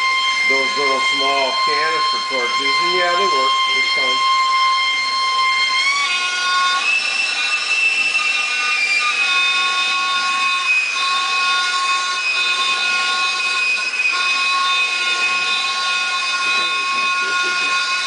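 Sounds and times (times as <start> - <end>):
high singing whistle: 0.0 - 18.0.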